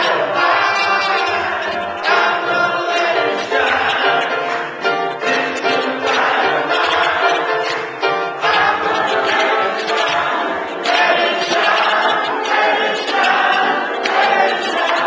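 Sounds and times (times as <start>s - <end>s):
congregation singing: 0.0s - 15.0s
piano and band playing: 0.0s - 15.0s.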